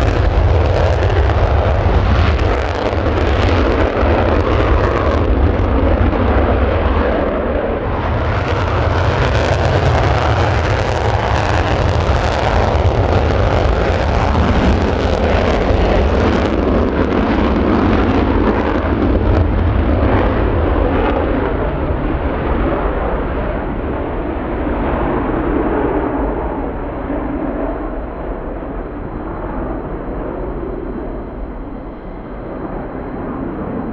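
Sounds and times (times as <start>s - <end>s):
jet engine afterburner roar: 0.0s - 33.9s.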